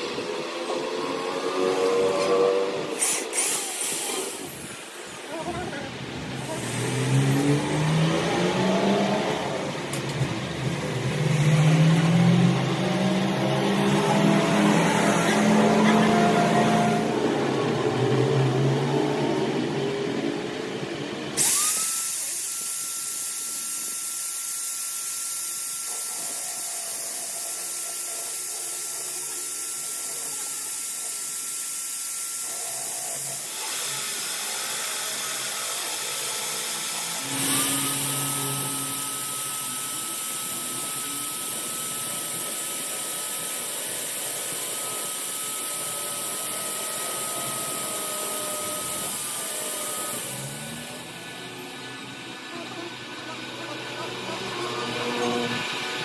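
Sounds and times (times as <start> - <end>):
high-speed power tool whining: 0.0 - 56.0.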